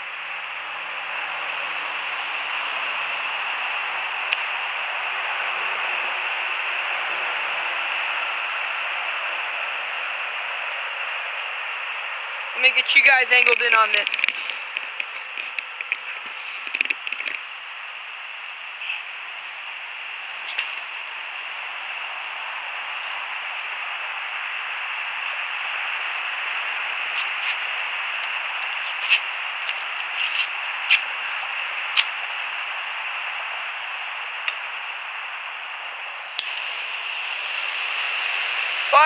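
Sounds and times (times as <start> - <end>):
blowtorch hissing: 0.0 - 39.0.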